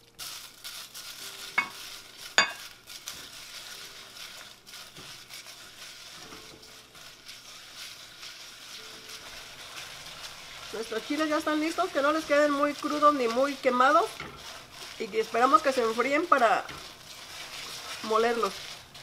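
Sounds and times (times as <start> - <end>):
chiles sizzling in oil: 0.0 - 19.0.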